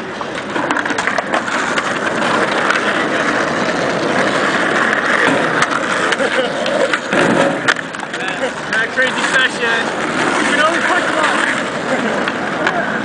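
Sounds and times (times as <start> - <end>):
skateboard clacks: 0.0 - 13.0
skateboard wheels rolling on pavement: 0.0 - 13.0.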